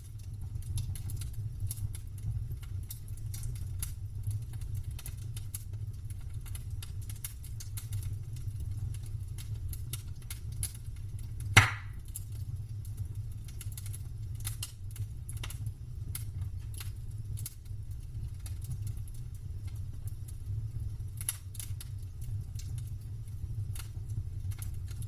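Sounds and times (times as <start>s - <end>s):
campfire wood crackling: 0.0s - 25.0s.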